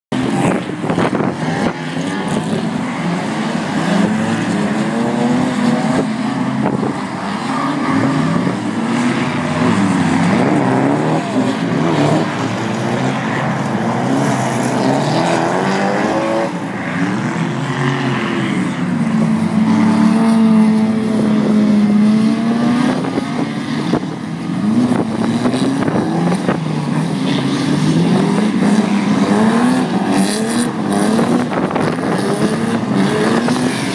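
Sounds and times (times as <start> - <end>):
drift car engines revving: 0.1 - 33.9.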